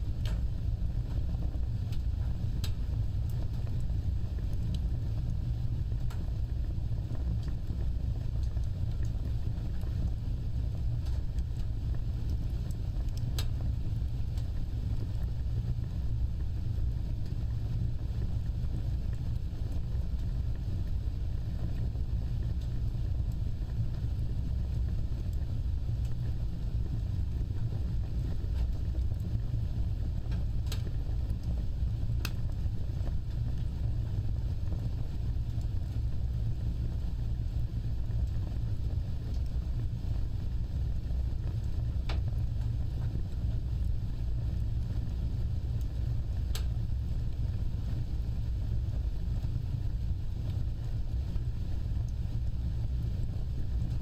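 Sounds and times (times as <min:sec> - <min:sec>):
fire crackles: 0:00.0 - 0:54.0
wood fire flames rumbling: 0:00.0 - 0:54.0.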